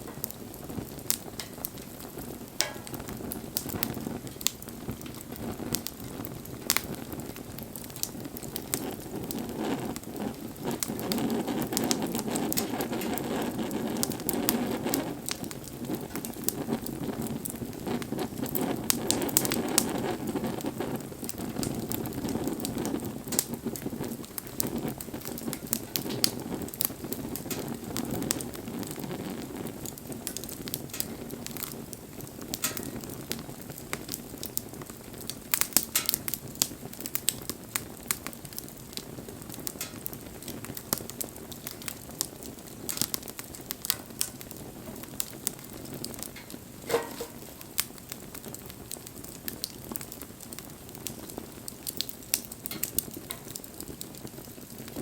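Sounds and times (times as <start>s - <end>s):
bonfire crackling and popping: 0.0s - 55.0s
rush of burning flames: 0.0s - 55.0s.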